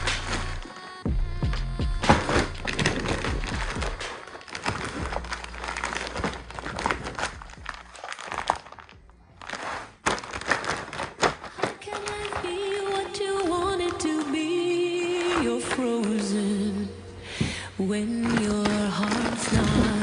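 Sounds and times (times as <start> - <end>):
plastic film crinkling: 0.0 - 1.1, 1.9 - 16.9, 18.0 - 20.0.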